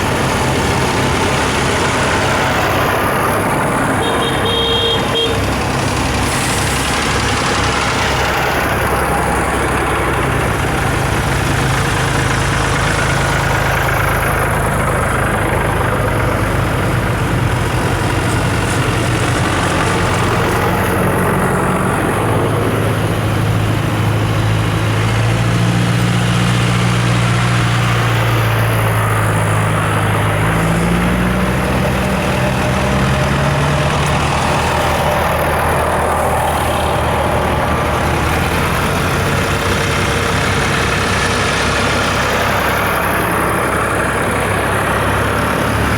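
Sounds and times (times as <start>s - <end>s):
tractor engines driving past: 0.0s - 45.9s.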